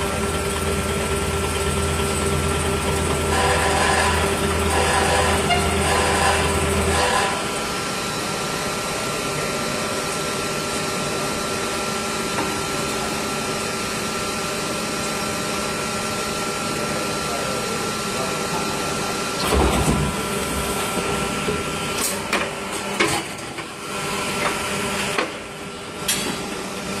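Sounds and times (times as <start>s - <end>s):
machine mechanical hum and hiss: 0.0s - 27.0s.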